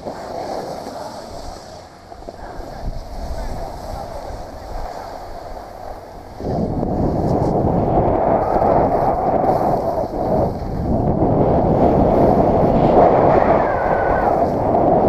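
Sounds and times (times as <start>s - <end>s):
wind buffeting microphone: 1.3s - 15.0s.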